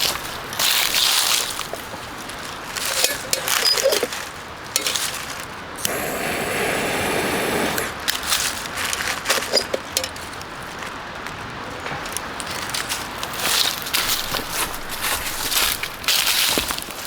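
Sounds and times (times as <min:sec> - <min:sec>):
clicks and knocks of handling: 0:00.0 - 0:05.5, 0:08.8 - 0:17.0.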